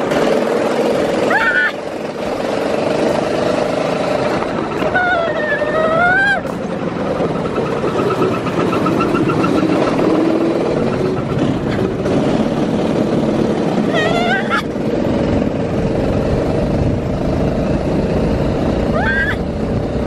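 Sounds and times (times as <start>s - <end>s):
go-kart engine running: 0.0s - 20.0s
wind noise: 2.8s - 20.0s.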